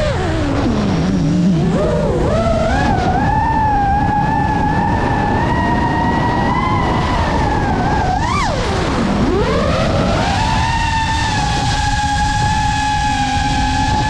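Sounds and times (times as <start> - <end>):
drone motors whining: 0.0 - 14.0
wind rushing: 0.0 - 14.0.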